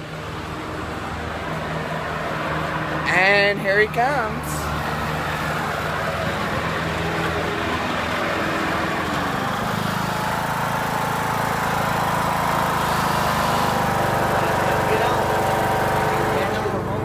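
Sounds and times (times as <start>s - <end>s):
lawnmower engine running: 0.0s - 17.0s.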